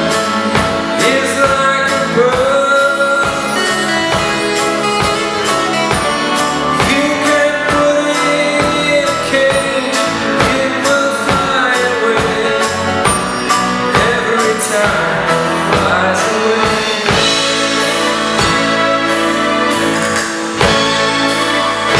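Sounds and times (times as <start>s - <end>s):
live rock band playing: 0.0s - 21.9s
steady drum beat: 0.0s - 21.9s.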